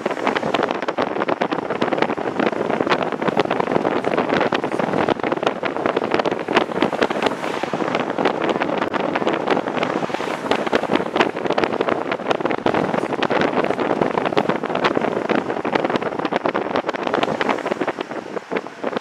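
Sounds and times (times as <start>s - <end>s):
moving car noise: 0.0s - 19.0s
wind buffeting microphone: 0.0s - 19.0s.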